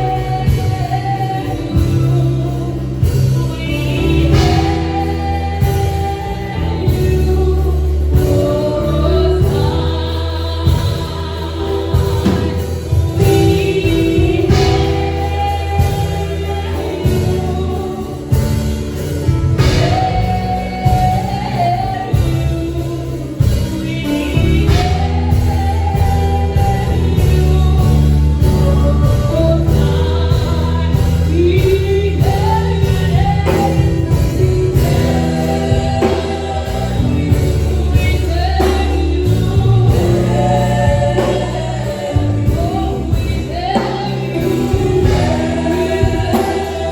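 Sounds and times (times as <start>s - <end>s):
band with bass and beat: 0.0s - 46.9s
choir singing gospel: 0.0s - 46.9s.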